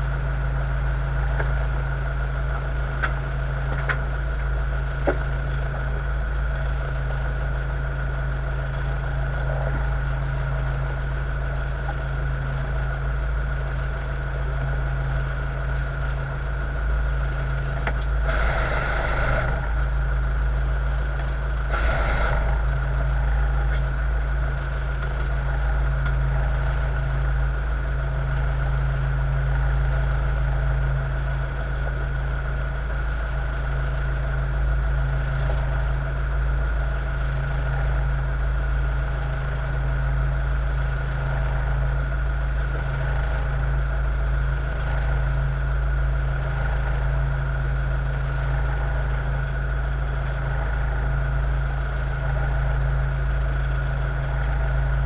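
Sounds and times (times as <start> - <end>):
outboard engines idling: 0.0 - 55.0.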